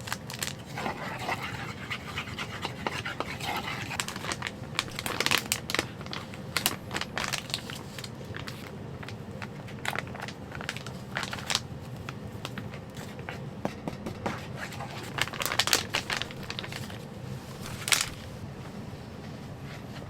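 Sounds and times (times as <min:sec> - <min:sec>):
crinkling and crunching: 0:00.0 - 0:13.4, 0:14.1 - 0:18.4
steady low hum: 0:00.0 - 0:20.0.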